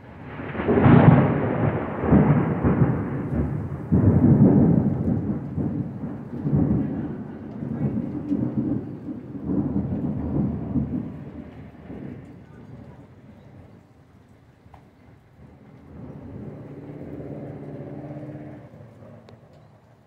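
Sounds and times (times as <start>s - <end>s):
thunder rumbling: 0.0s - 20.0s.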